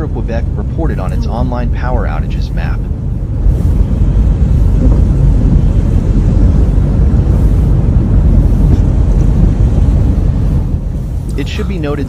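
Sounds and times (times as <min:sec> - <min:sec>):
low rumble: 0:00.0 - 0:12.0
water rushing against car: 0:00.0 - 0:12.0.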